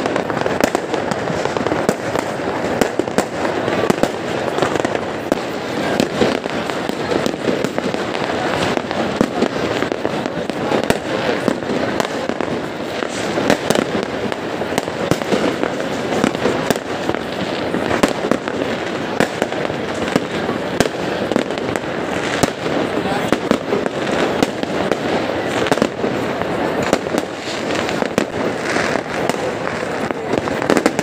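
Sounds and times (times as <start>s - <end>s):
fireworks and firecrackers crackling: 0.0s - 31.0s.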